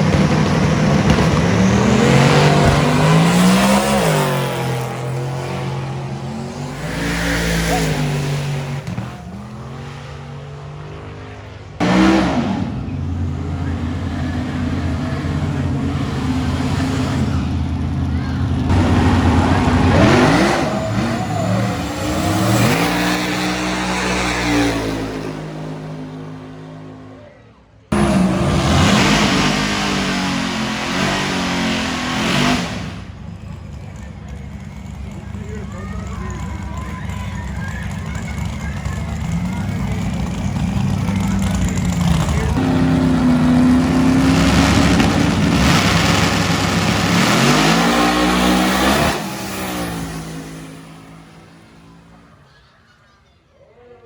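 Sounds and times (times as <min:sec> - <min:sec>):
car engine accelerating hard: 0:00.0 - 0:52.4.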